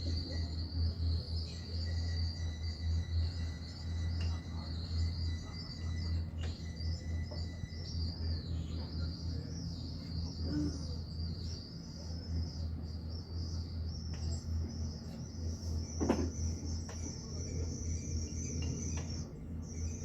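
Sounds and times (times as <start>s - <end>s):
high-pitched insect chorus: 0.0s - 20.0s
low pulsing hum: 0.0s - 20.0s.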